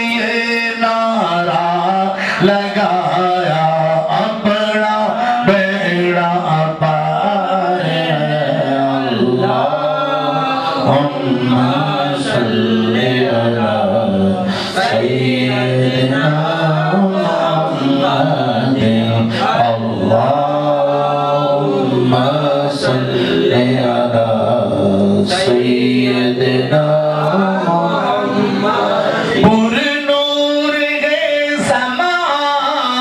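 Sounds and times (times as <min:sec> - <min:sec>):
man chanting into a microphone: 0:00.0 - 0:33.0.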